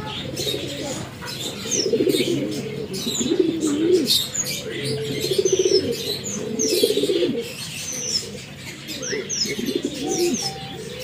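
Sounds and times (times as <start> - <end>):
pigeons cooing: 0.0 - 11.0
small birds chirping: 0.0 - 11.0.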